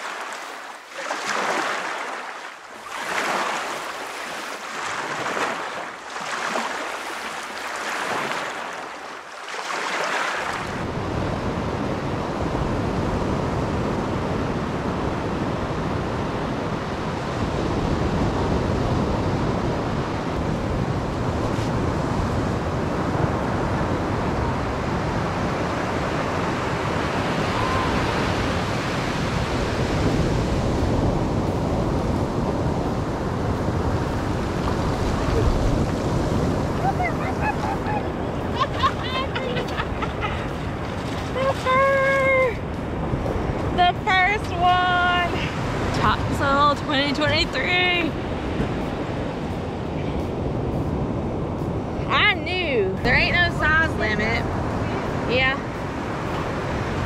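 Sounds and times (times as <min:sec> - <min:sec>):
ocean waves washing: 0:00.0 - 0:57.0
surf breaking on beach: 0:00.0 - 0:57.0
wind on microphone: 0:10.5 - 0:57.0.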